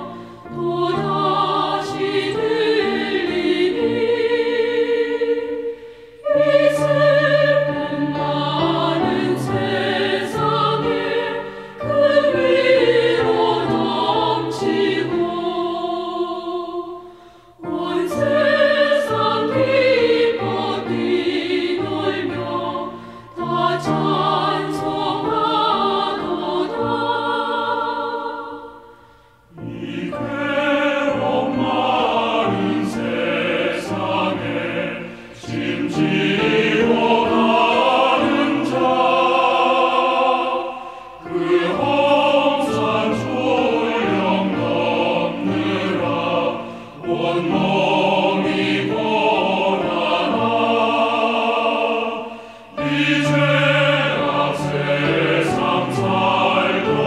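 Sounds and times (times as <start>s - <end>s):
choir singing carol: 0.0s - 57.0s.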